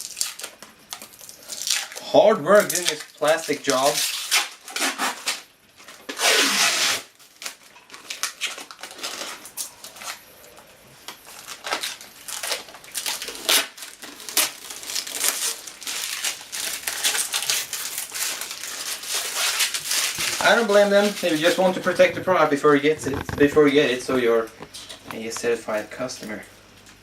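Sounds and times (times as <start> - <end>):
plastic film crinkling and tearing: 0.0 - 10.3, 11.0 - 25.8.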